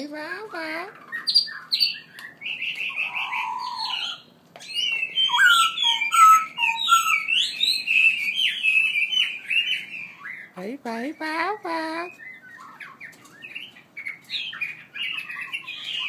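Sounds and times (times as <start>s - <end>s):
songbird singing whistled notes: 0.5s - 16.0s.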